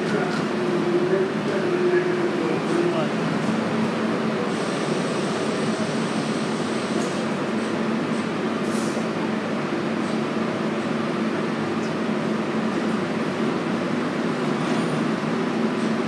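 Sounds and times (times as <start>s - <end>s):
subway train equipment humming: 0.0s - 16.0s.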